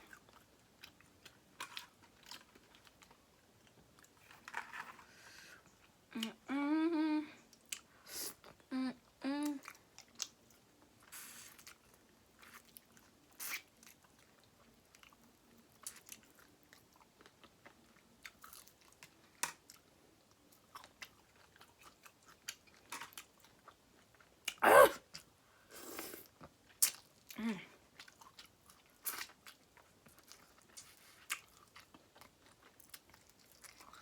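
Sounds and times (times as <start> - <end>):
chewing and crunching: 0.0 - 6.0, 9.6 - 25.4, 26.2 - 34.0.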